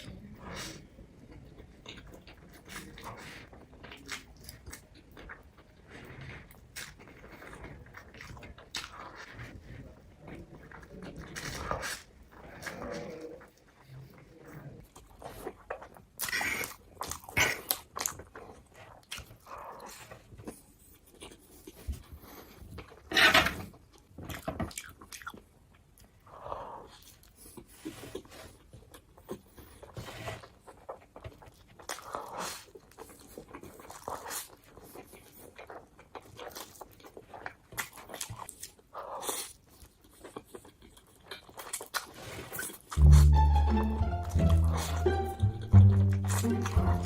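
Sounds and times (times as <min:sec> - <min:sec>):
person chewing noodles: 0:00.0 - 0:13.9, 0:14.8 - 0:47.0.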